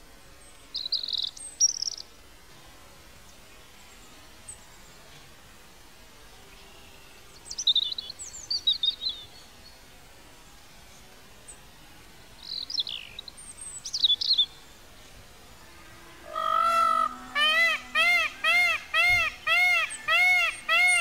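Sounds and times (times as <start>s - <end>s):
faint outdoor background: 0.0s - 21.0s
songbird chirps and trills: 0.0s - 21.0s.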